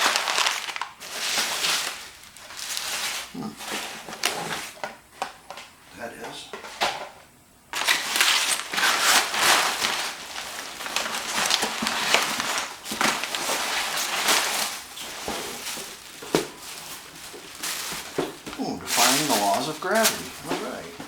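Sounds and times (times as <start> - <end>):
cardboard rustling and scraping: 0.0 - 4.9, 7.7 - 21.0.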